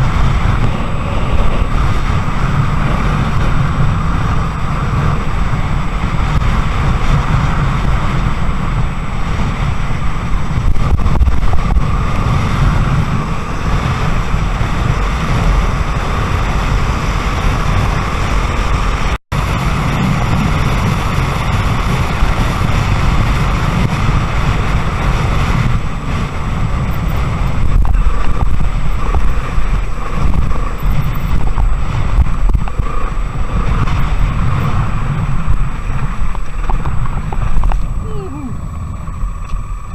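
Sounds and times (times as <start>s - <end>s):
dirt bike engine running: 0.0s - 39.9s
wind buffeting microphone: 0.0s - 39.9s.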